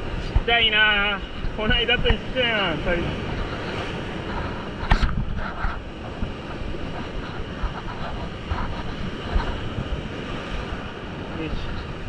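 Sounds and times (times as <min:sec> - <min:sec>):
surf washing over rocks: 0:00.0 - 0:12.0
wind buffeting the microphone: 0:00.0 - 0:12.0.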